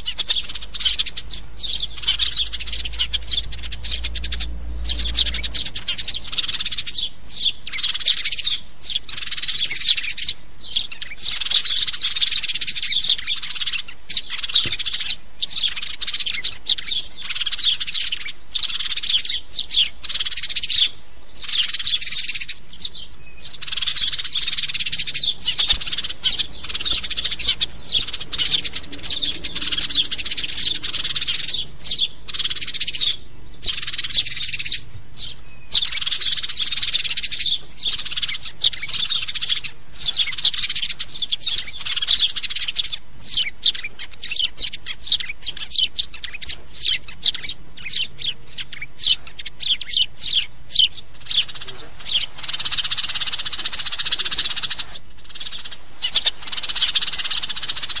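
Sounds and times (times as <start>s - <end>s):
sparrow chirping: 0.0s - 58.0s.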